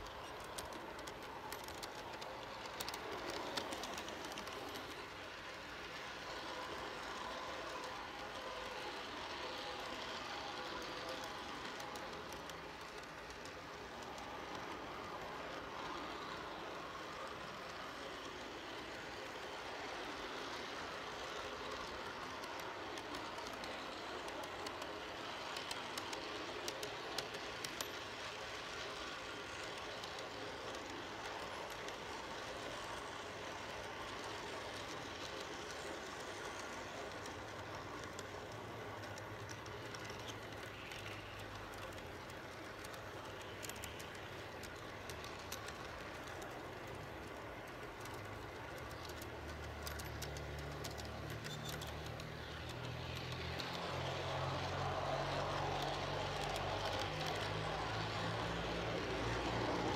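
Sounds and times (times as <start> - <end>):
model train rolling rumble: 0.0 - 59.9.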